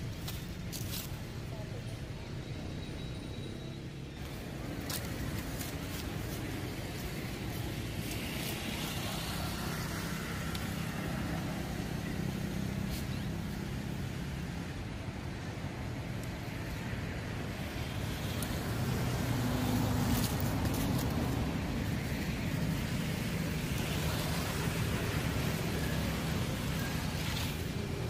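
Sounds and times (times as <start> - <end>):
distant road traffic: 0.0 - 28.0.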